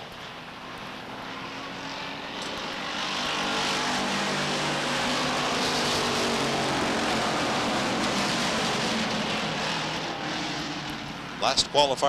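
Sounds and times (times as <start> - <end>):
stock car engines racing past: 0.0 - 12.0.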